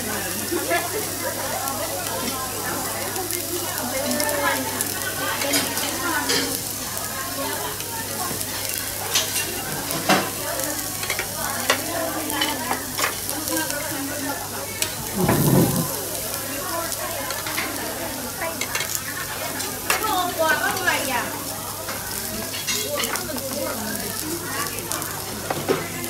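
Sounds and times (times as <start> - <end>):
chicken wings sizzling on grill: 0.0 - 26.0.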